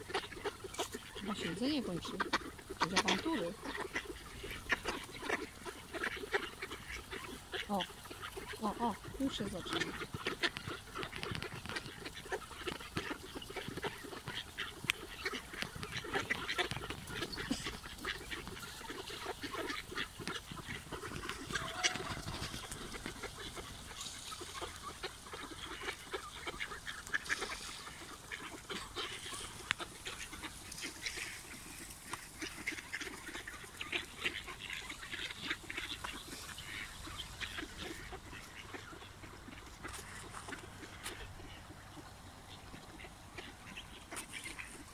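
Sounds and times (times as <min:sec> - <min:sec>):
ducks quacking: 0:00.0 - 0:44.9.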